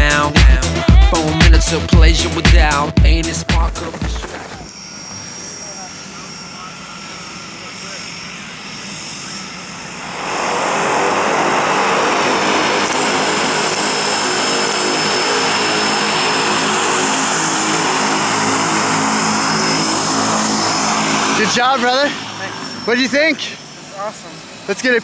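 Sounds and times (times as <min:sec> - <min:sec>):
propeller aircraft engine running: 0:00.0 - 0:25.0.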